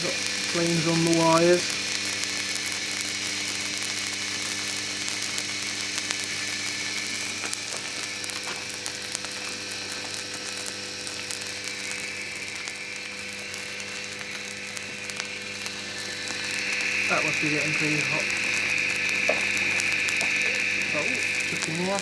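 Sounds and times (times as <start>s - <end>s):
small crackles and rattles: 0.0s - 22.0s.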